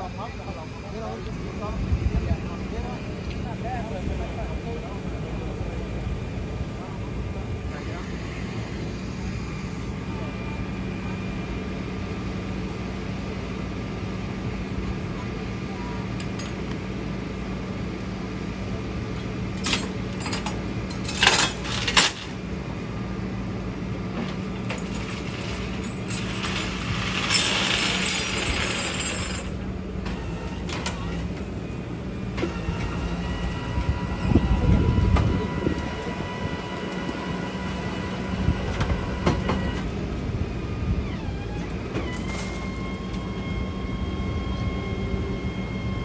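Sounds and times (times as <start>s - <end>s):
truck engine hum: 0.0s - 46.0s.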